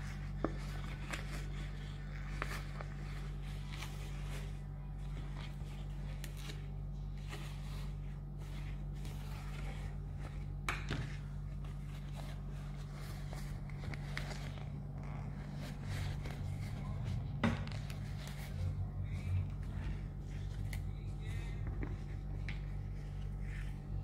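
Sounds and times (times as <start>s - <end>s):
leather rustling and scraping: 0.0s - 24.0s
steady low hum: 0.0s - 24.0s.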